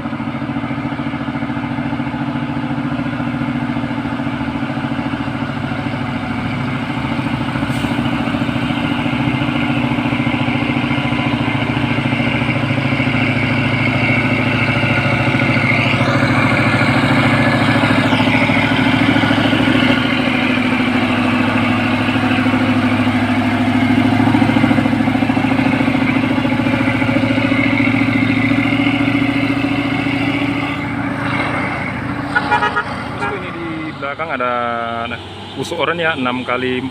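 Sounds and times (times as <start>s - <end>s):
diesel truck engine climbing: 0.0s - 36.9s
passing vehicle engine: 0.0s - 36.9s.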